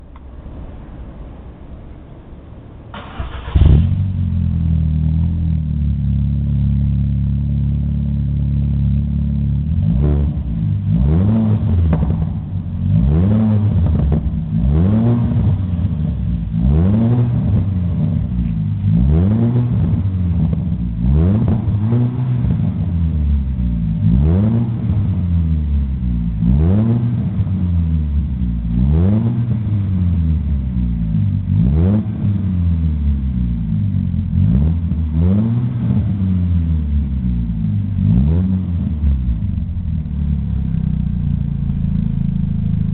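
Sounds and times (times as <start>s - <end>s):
car engine idling: 0.0s - 26.5s, 32.3s - 35.2s, 36.3s - 42.9s
car engine revving: 0.0s - 42.9s
car engine starting: 0.0s - 42.9s.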